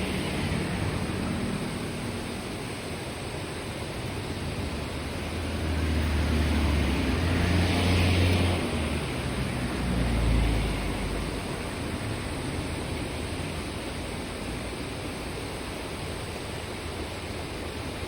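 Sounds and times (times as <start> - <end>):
river babbling over stones: 0.0 - 9.9, 10.7 - 18.0.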